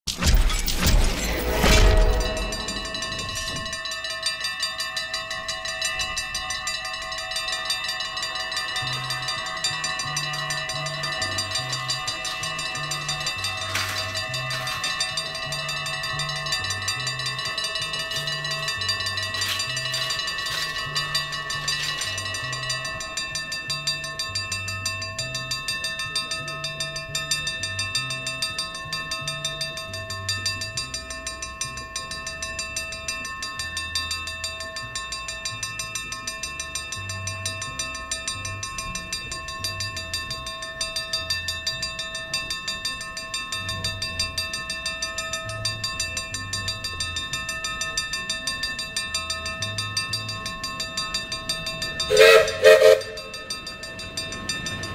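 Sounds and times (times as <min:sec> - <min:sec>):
level-crossing bell ringing: 0:00.7 - 0:54.9.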